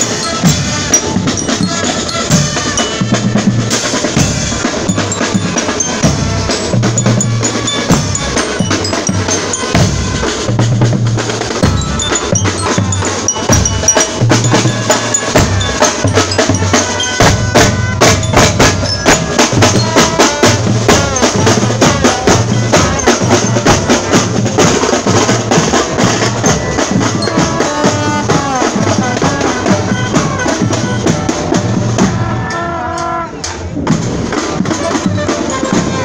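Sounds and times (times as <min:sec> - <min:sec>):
brass with trombones: 0:00.0 - 0:36.0
marching drums: 0:00.0 - 0:36.0.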